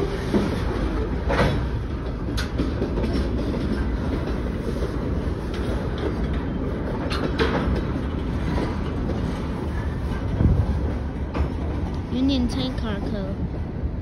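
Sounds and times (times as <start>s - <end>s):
train wheel clacks: 0.0s - 13.4s
freight train rumbling past: 0.0s - 14.0s.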